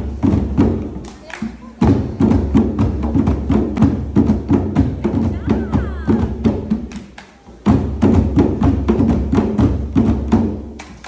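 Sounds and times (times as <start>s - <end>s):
percussion-driven music: 0.0s - 11.0s.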